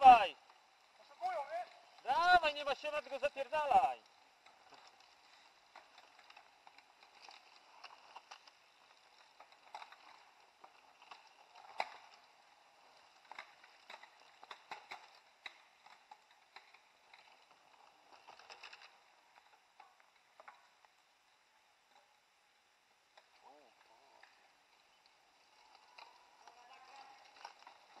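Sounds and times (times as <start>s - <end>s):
bike tyres crackling over twigs: 0.0s - 28.0s.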